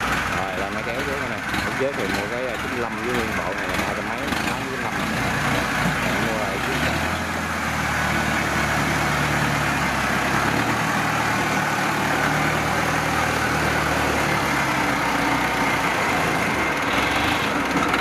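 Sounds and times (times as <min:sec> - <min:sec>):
tracked carrier engine running: 0:00.0 - 0:18.0.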